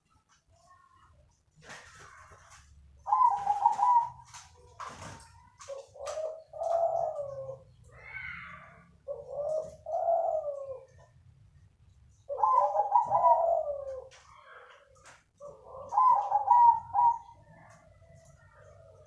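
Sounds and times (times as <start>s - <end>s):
dove cooing: 1.6s - 19.0s.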